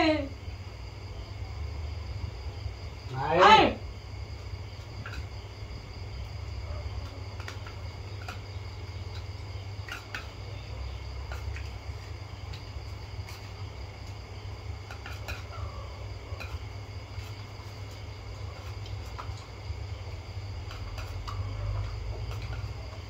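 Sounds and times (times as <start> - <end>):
night insects chirring: 0.0 - 23.0.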